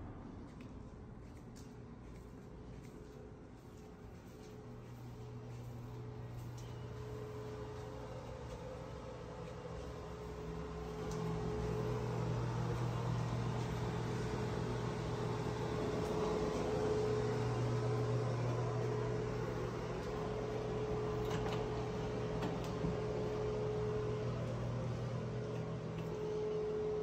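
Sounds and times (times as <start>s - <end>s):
fan humming: 1.8s - 27.0s.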